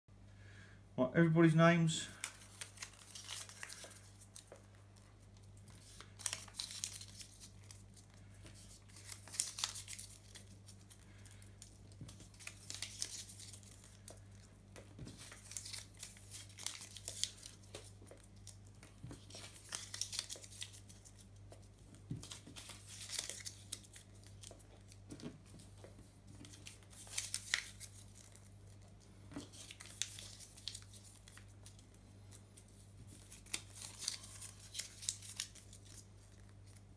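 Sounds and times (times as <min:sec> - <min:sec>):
paper crumpling: 0:02.0 - 0:36.9.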